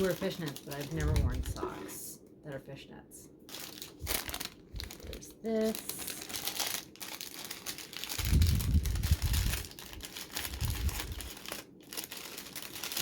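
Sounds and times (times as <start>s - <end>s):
packaging crinkling: 0.0s - 2.0s, 3.4s - 13.0s.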